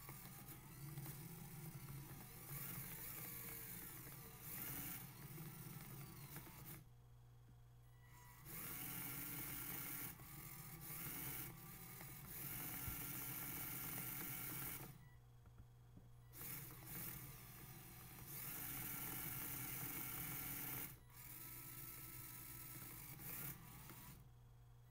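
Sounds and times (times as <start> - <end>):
small gear motors whirring: 0.0 - 6.8, 8.0 - 15.2, 16.3 - 24.3.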